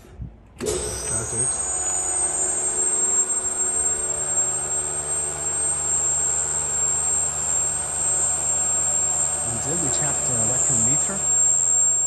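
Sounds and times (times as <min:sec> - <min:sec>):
vacuum pump hum and whine: 0:00.0 - 0:12.0.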